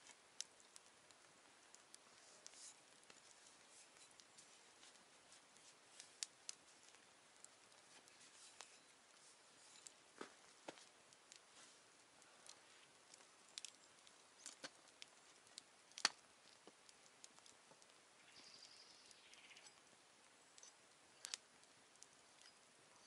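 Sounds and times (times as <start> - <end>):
campfire crackling and popping: 0.0 - 23.0
soft hiss: 0.0 - 23.0.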